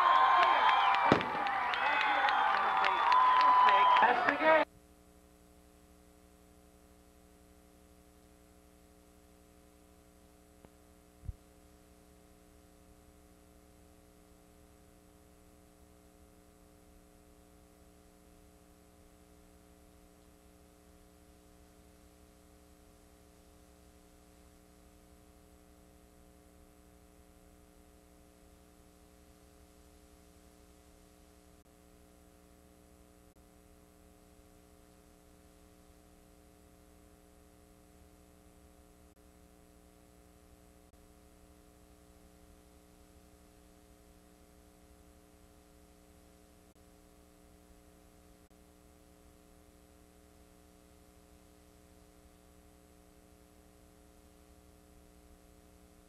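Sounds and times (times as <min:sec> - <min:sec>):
faint electrical hum with hiss: 0:04.6 - 0:56.0.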